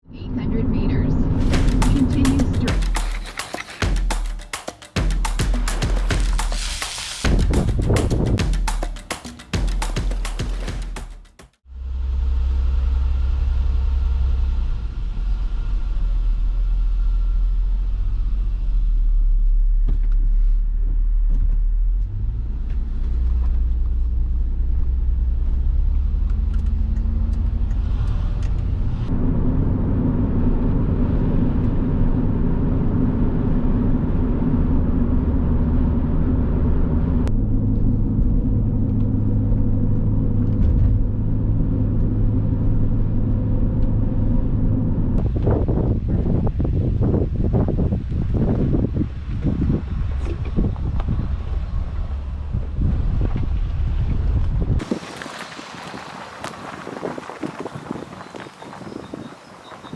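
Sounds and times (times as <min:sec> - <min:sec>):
car engine and road rumble: 0:11.6 - 0:59.9.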